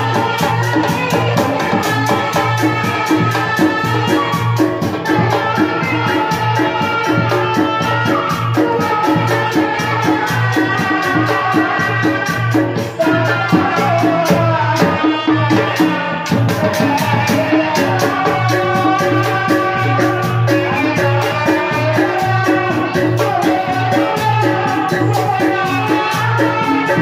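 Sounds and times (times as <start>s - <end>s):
live percussion ensemble music: 0.0s - 27.0s.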